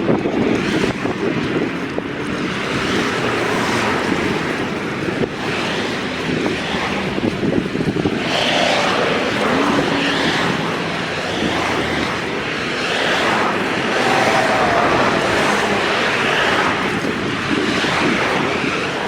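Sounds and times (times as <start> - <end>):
passing motor vehicles: 0.0 - 19.0
wind on microphone: 0.0 - 19.0.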